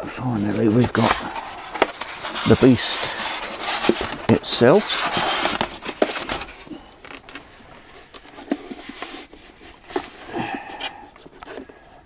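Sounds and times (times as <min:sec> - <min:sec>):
packaging rustling and scraping: 0:00.1 - 0:11.9.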